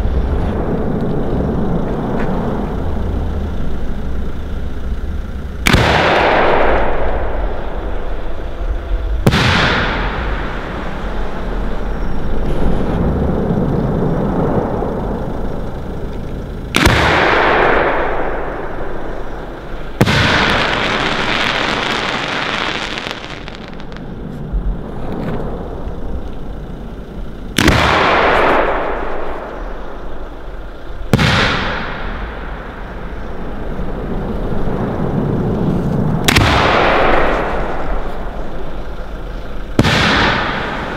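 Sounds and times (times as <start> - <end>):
firework crackling: 0.0 - 40.9
rolling echoes: 0.0 - 40.9.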